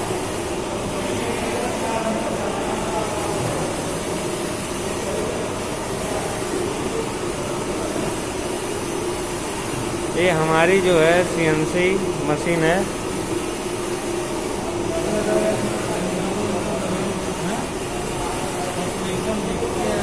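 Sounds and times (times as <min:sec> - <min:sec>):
machinery hum and whir: 0:00.0 - 0:20.0.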